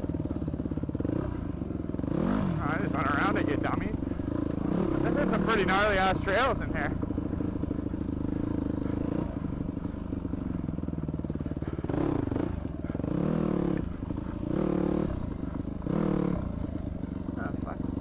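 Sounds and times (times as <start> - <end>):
dirt bike engine revving: 0.9 - 18.0.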